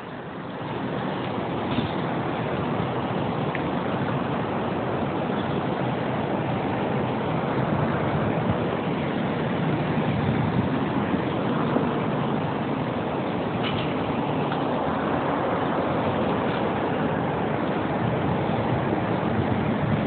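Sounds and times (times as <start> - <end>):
wind through open car window: 0.0 - 20.0.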